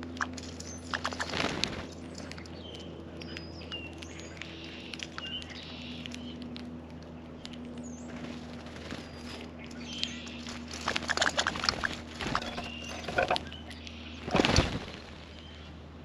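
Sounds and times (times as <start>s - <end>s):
noisy flurry of wings: 0.0s - 15.8s
songbirds chirping: 0.0s - 16.0s.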